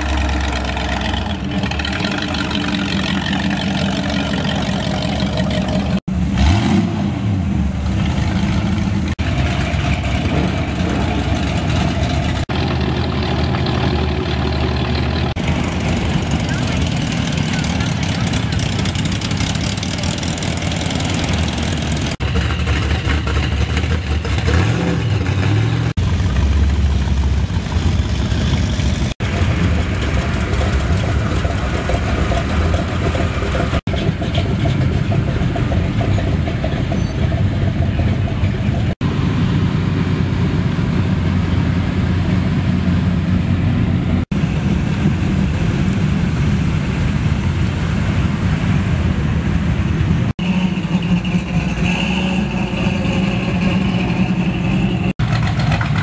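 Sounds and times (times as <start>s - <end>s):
pickup truck engines passing: 0.0s - 56.0s.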